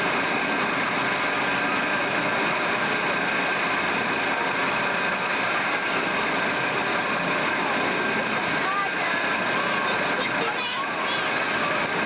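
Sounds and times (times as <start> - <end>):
amusement ride mechanical rush: 0.0 - 12.0.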